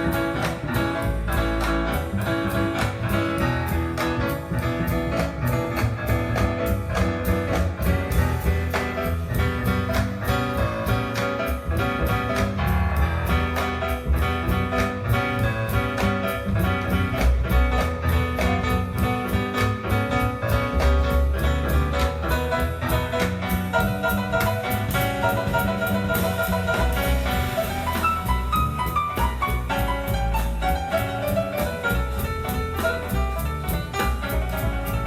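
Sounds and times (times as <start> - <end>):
music with a steady beat: 0.0 - 35.0.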